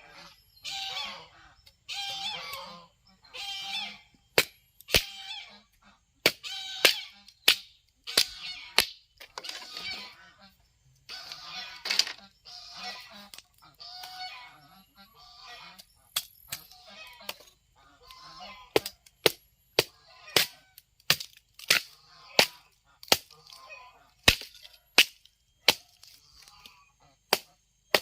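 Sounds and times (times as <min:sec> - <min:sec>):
ducks quacking: 0:00.0 - 0:04.2, 0:04.9 - 0:19.0, 0:19.8 - 0:20.8, 0:21.8 - 0:24.8, 0:25.7 - 0:28.0.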